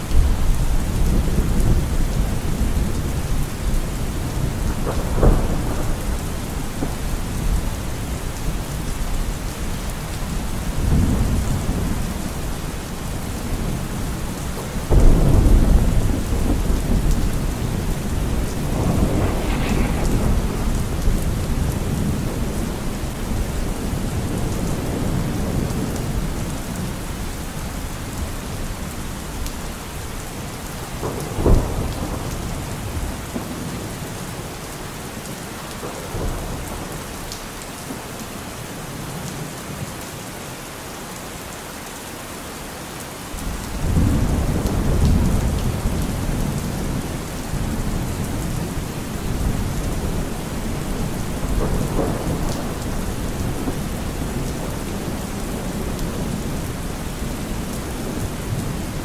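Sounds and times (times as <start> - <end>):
thunder rumbling and cracking: 0.0 - 39.5, 43.4 - 59.0
steady rain: 0.0 - 59.0.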